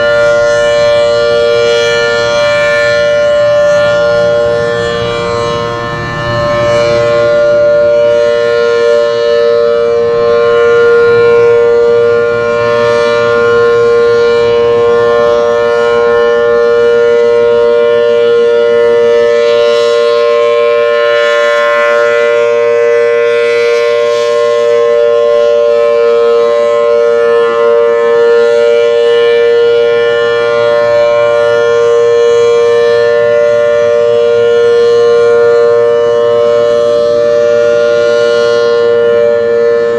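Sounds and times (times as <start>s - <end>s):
two-tone tornado siren: 0.0s - 39.9s.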